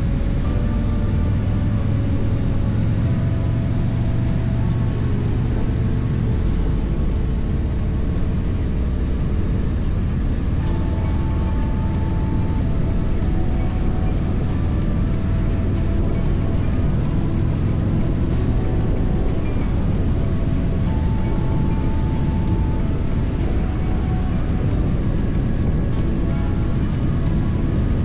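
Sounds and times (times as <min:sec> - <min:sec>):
music playing: 0:00.0 - 0:28.0
road and wind noise: 0:00.0 - 0:28.0.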